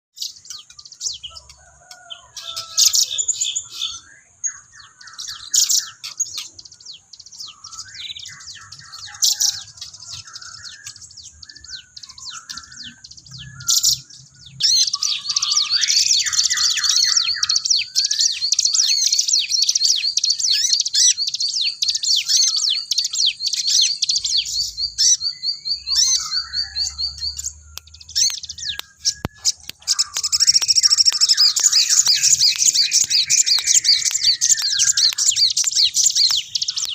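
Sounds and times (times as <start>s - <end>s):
bird chirping and trilling: 0.2s - 36.9s.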